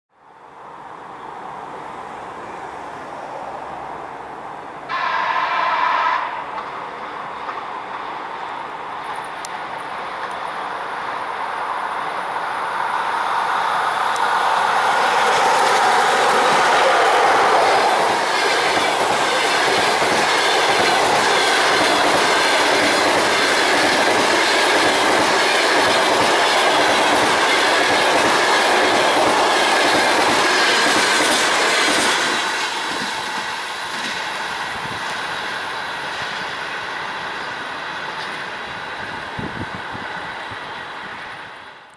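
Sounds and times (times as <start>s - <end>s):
train wheels on rails: 0.5s - 41.9s.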